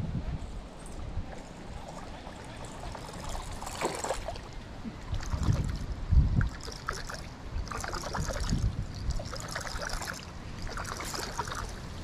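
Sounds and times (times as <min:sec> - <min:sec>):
water splashing: 0:01.8 - 0:12.0.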